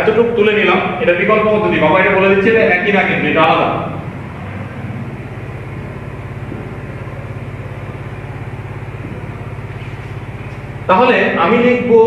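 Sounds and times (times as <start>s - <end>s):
machine humming and throbbing: 0.0s - 12.0s.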